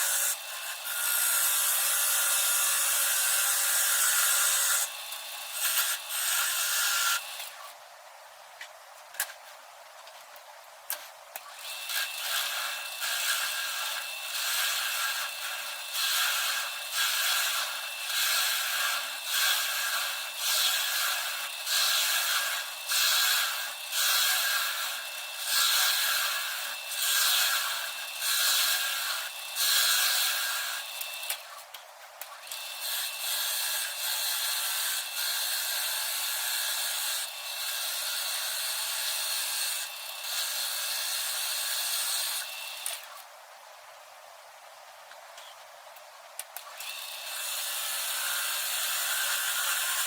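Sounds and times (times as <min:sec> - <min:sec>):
wood lathe whining: 0:00.0 - 0:07.7, 0:11.6 - 0:31.5, 0:32.5 - 0:43.1, 0:46.8 - 0:50.0
tool cutting spinning wood: 0:00.0 - 0:07.8, 0:11.4 - 0:31.7, 0:32.3 - 0:43.2, 0:46.6 - 0:50.0.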